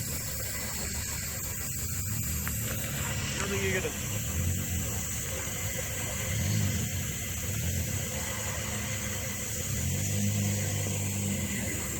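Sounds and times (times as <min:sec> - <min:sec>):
car engine rumbling: 0:00.0 - 0:11.9.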